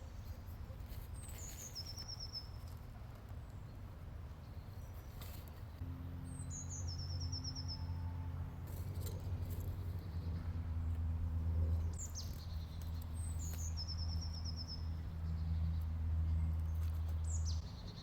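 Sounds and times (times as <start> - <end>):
songbird singing: 0.0 - 18.0
low steady hum: 2.4 - 18.0.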